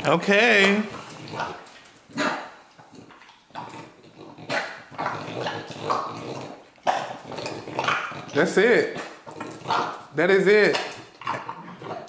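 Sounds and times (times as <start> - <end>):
dog eating noisily: 0.0 - 10.2, 10.8 - 12.0.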